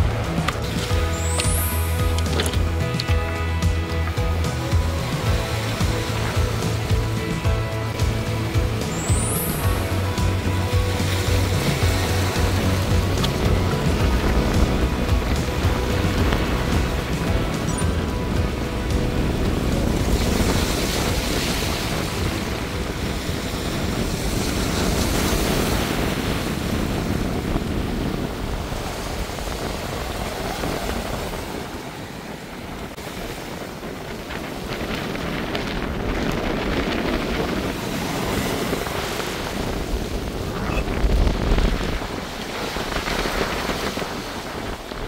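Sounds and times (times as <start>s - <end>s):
waves washing over pebbles: 0.0s - 45.0s
wind rumbling on microphone: 0.0s - 45.0s.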